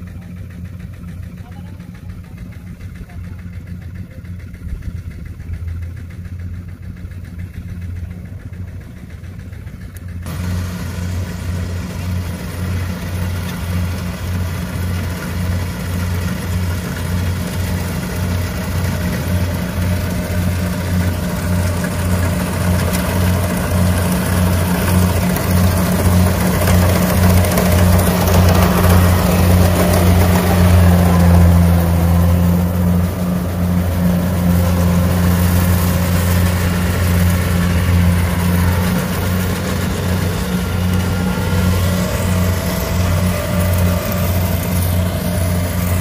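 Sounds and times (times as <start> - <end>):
combine harvester engine humming: 0.0 - 46.0
noisy mechanical clatter: 0.0 - 46.0.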